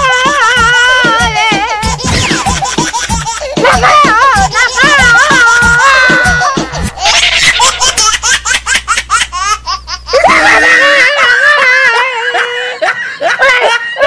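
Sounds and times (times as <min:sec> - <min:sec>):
bursts of laughter: 0:02.0 - 0:08.8, 0:09.5 - 0:14.0.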